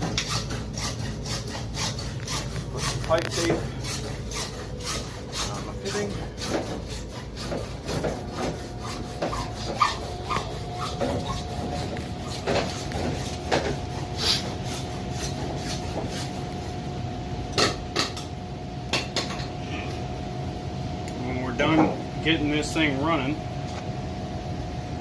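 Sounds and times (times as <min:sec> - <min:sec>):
faint hum: 0:00.0 - 0:25.0.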